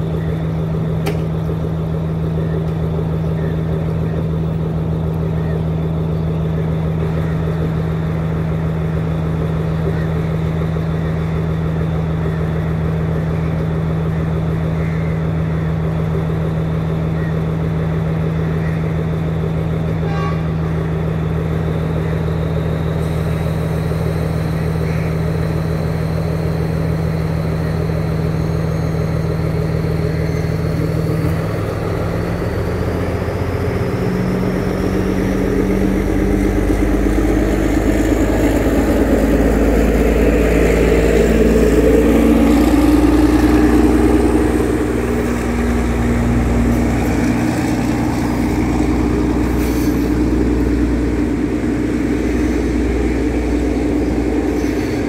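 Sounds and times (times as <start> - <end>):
diesel train engine: 0.0 - 55.0.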